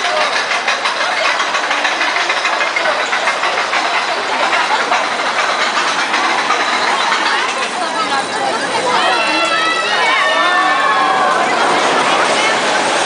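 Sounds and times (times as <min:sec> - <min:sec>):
roller coaster rattling on track: 0:00.0 - 0:13.0.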